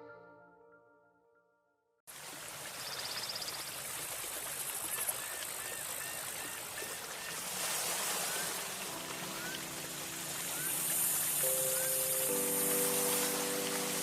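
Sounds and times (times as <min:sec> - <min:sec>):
running water rushing: 0:02.1 - 0:14.0.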